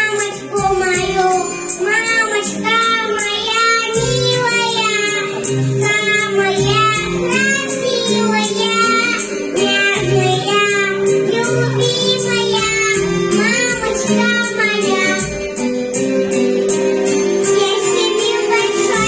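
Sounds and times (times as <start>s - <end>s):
child singing: 0.0s - 15.5s, 17.4s - 19.0s
instrumental backing track: 0.0s - 19.0s.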